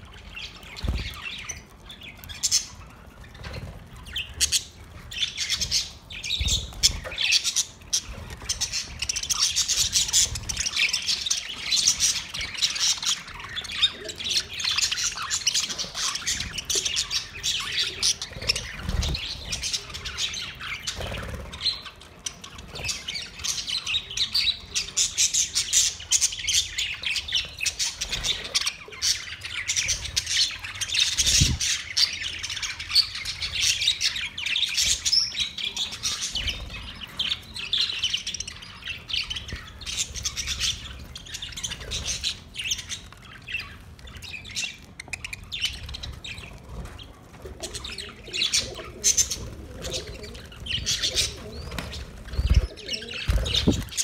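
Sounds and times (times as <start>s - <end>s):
budgerigars chattering and squawking: 0.0s - 54.0s.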